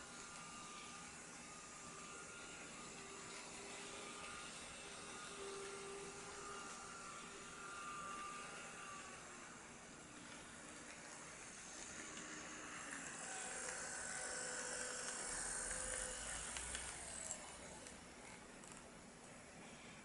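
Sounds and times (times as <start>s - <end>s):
model train motor whine: 0.0s - 18.9s.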